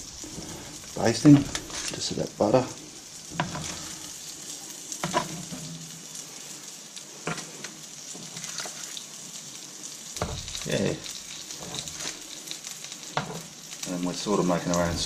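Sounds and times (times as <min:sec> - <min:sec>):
butter sizzling: 0:00.0 - 0:15.0.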